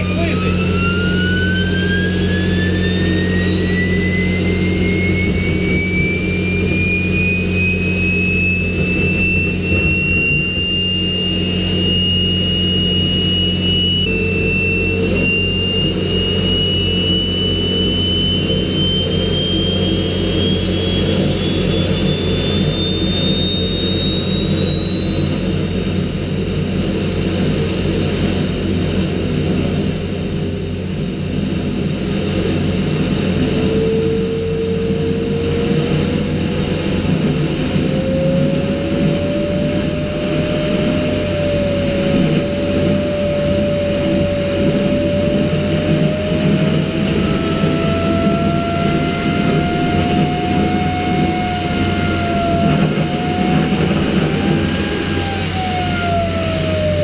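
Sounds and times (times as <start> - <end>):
jet engine rotor whine: 0.0 - 57.0
low drone: 0.0 - 57.0.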